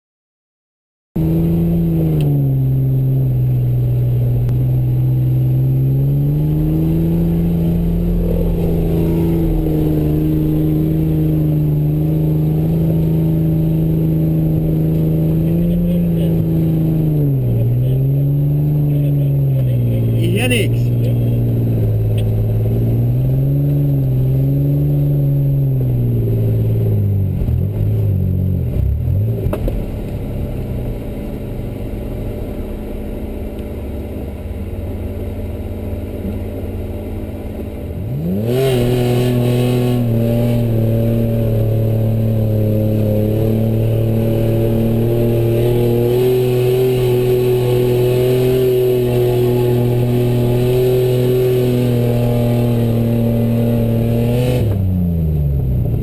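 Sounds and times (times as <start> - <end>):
car engine revving: 1.2 - 56.0.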